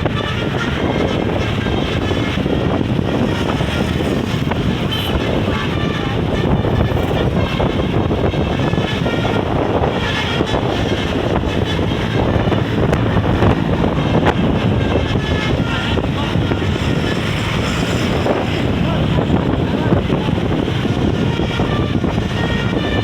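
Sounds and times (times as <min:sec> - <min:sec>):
bus engines running: 0:00.0 - 0:23.0
traffic noise: 0:00.0 - 0:23.0
wind buffeting microphone: 0:00.0 - 0:23.0.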